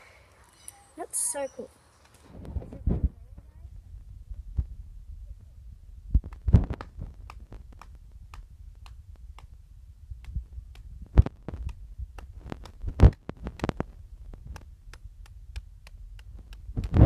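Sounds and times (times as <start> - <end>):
low rumble: 2.3 - 17.0.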